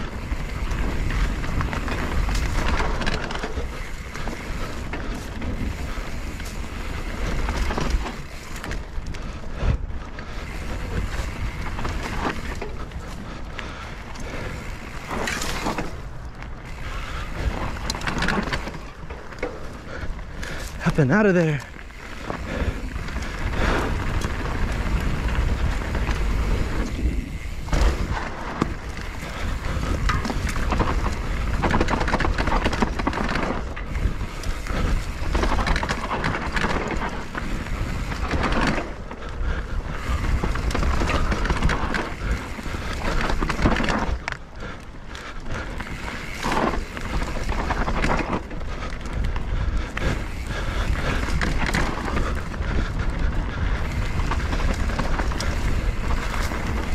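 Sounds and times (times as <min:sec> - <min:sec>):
bike knocks and rattles: 0:00.0 - 0:20.8, 0:21.5 - 0:44.6, 0:45.2 - 0:56.9
wind buffeting microphone: 0:00.0 - 0:56.9.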